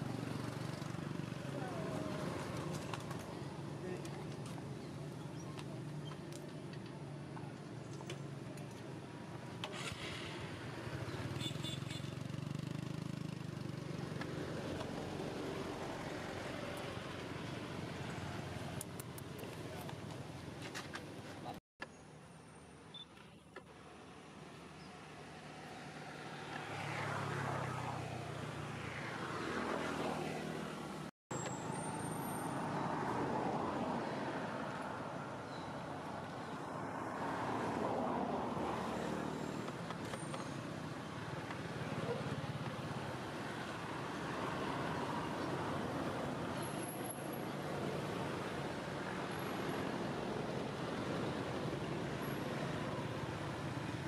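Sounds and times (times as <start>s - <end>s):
steady traffic noise: 0.0s - 54.0s.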